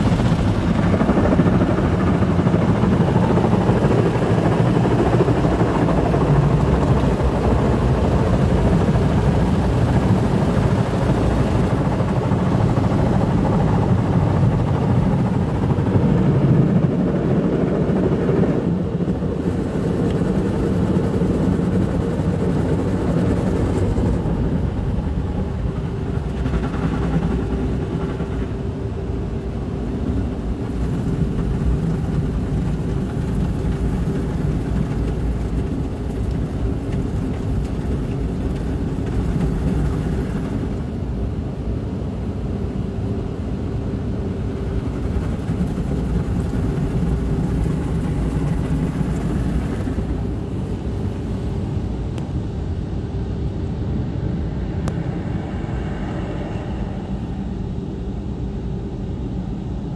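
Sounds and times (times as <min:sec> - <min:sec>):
car wash machine drone: 0:00.0 - 0:59.6
faint hum: 0:00.0 - 0:59.9.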